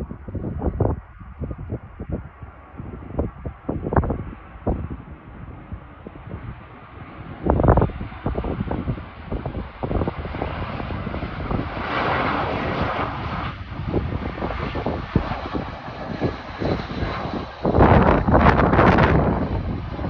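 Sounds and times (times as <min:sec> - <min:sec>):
wind buffeting microphone: 0:00.0 - 0:20.0
jet engines running: 0:02.6 - 0:20.0.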